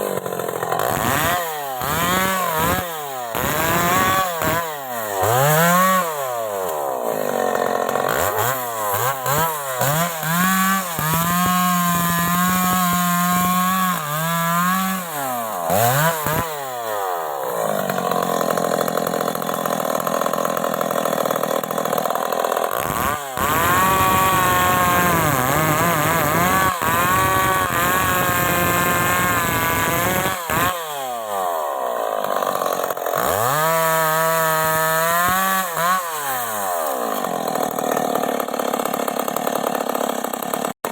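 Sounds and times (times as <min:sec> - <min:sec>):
chainsaw revving and idling: 0:00.0 - 0:40.9
chainsaw sawing through wood: 0:00.0 - 0:40.9.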